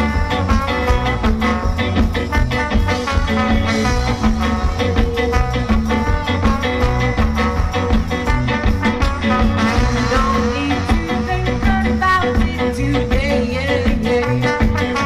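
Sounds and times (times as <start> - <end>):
bass line: 0.0 - 15.0
live band playing: 0.0 - 15.0
steady drum beat: 0.0 - 15.0.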